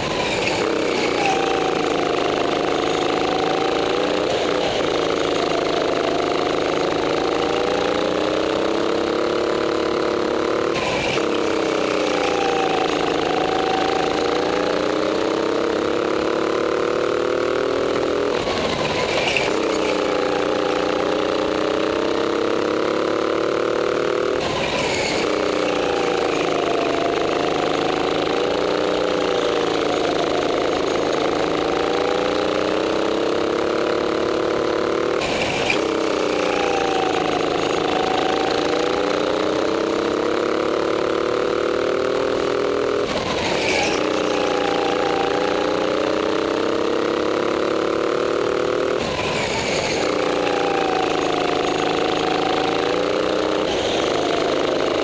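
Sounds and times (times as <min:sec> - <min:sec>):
go-kart engine running hard: 0:00.0 - 0:55.0
rough engine bursts: 0:00.0 - 0:55.0.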